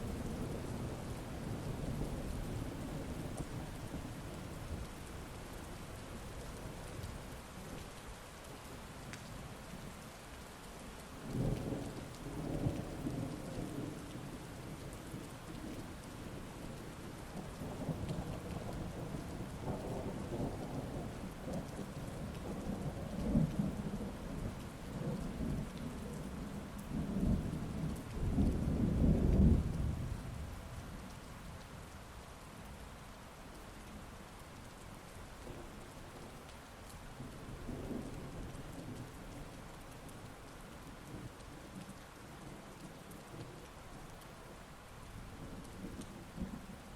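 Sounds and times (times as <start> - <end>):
heavy rain: 0.0 - 46.9.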